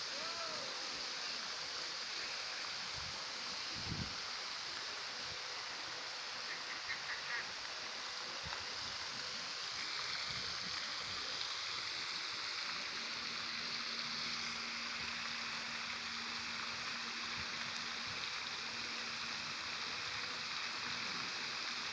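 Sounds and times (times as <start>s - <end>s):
fountain water splashing: 0.0s - 21.9s.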